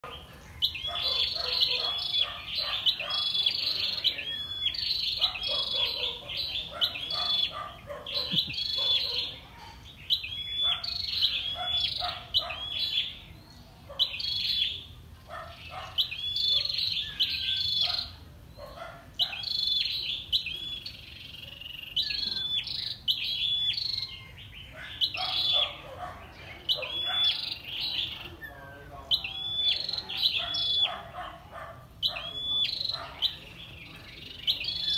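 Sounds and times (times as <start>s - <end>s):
bird high chirps: 0.0s - 34.9s.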